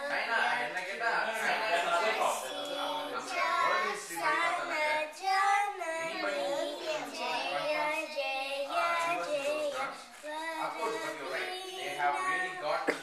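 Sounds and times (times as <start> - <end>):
girl singing unaccompanied: 2.1 - 12.7.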